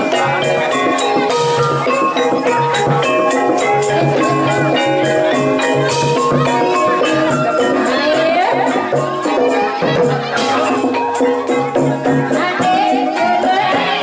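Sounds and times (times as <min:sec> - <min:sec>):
hand drum beat: 0:00.0 - 0:14.0
struck keyed instruments melody: 0:00.0 - 0:14.0.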